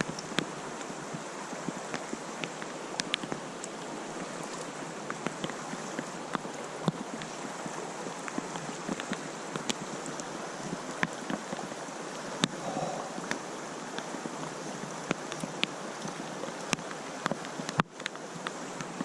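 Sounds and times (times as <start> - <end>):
creek rushing: 0.0 - 19.0
rain falling: 0.0 - 19.0.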